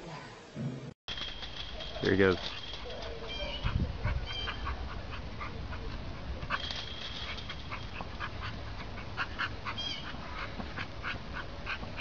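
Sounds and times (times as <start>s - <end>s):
dog panting: 1.8s - 12.0s.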